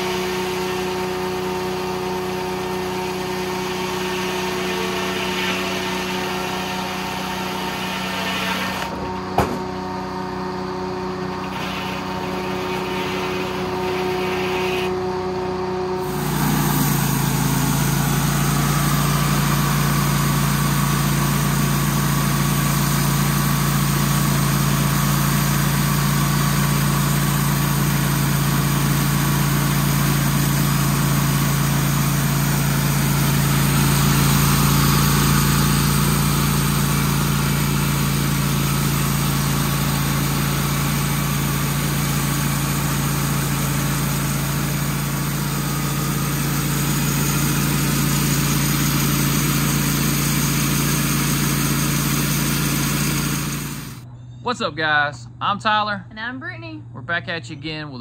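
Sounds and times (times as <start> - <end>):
band sawmill cutting log: 0.0 - 54.0.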